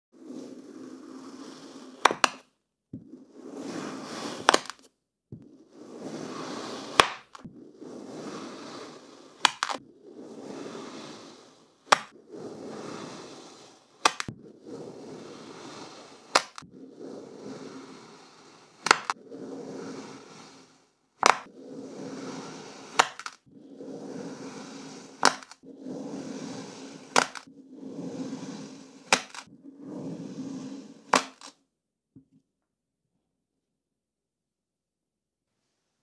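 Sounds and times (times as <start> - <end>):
knife scraping through sand: 0.2 - 2.3, 3.1 - 4.8, 5.5 - 31.5.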